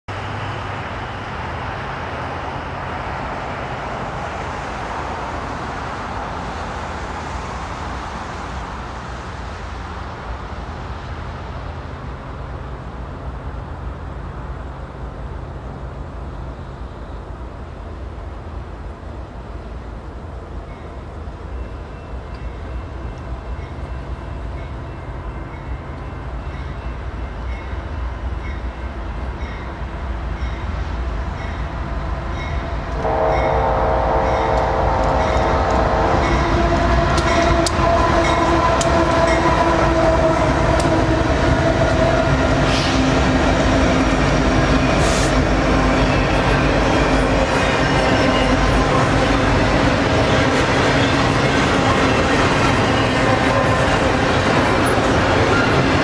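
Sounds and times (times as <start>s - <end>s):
low locomotive engine drone: 0.1s - 56.0s
outdoor noise: 0.1s - 56.0s.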